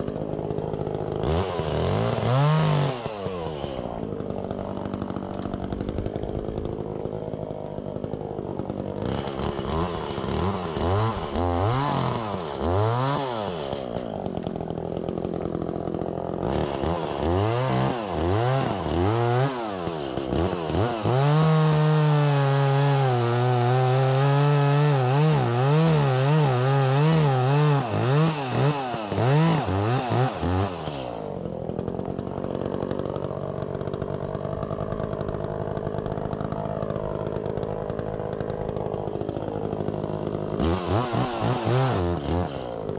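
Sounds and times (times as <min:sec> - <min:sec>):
chainsaw idling and revving: 0:00.0 - 0:42.9.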